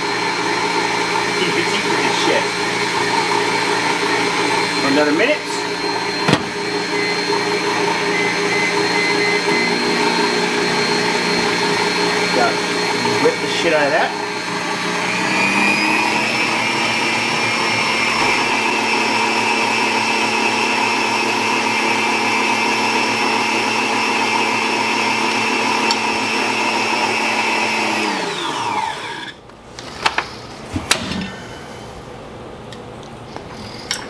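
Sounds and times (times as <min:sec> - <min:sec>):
stand mixer whisking: 0:00.0 - 0:29.4.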